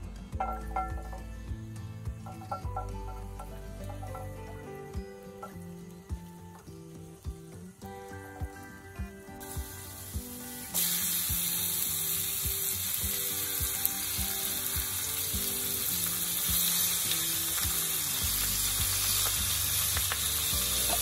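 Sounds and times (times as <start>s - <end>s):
background music with beat: 0.0s - 21.0s
garlic sizzling: 0.0s - 21.0s
loud steady sizzle: 0.0s - 21.0s.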